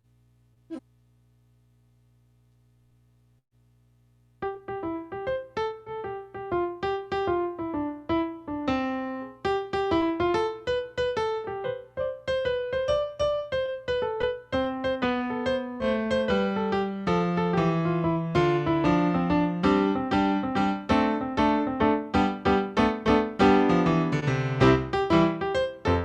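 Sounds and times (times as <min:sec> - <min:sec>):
piano music: 0:04.4 - 0:26.0.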